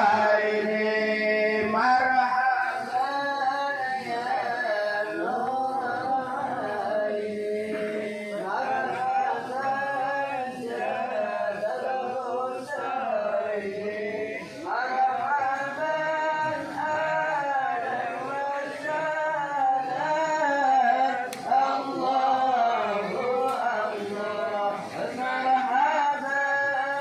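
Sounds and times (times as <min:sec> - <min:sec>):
man chanting devotional song: 0:00.0 - 0:27.0.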